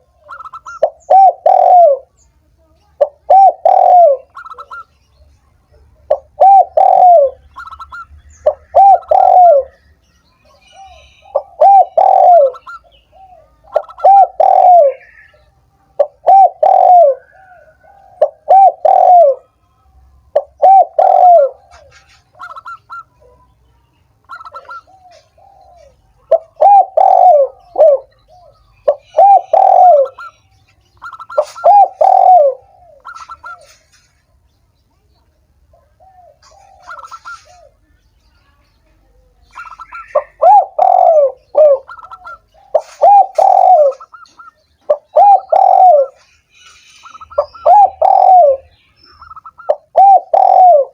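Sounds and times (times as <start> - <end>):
dove cooing: 0.0 - 2.2, 3.0 - 4.9, 5.7 - 9.9, 10.5 - 19.6, 20.3 - 23.4, 24.2 - 34.2, 35.7 - 37.9, 39.1 - 50.9.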